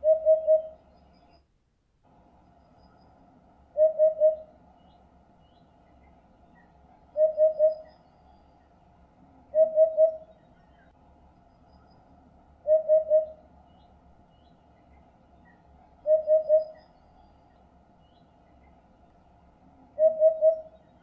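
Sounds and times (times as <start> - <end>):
bird hooting song: 0.0 - 1.4, 2.5 - 21.0.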